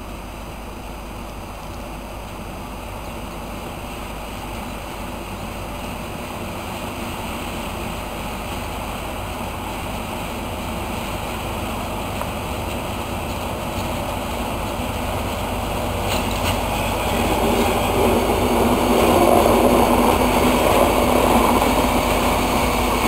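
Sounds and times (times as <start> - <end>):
diesel locomotive engine: 0.0 - 23.0
train wagons rolling rumble: 0.0 - 23.0.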